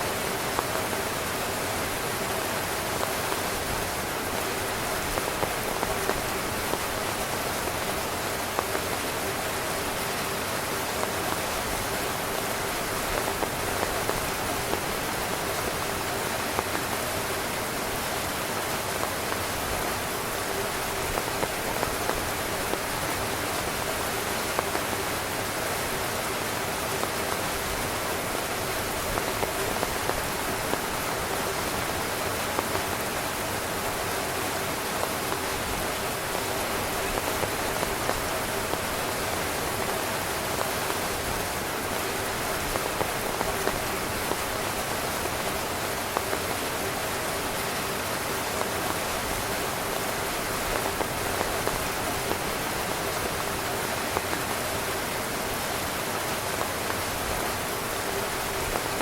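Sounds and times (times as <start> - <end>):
rain drops tapping on tent: 0.0 - 59.0.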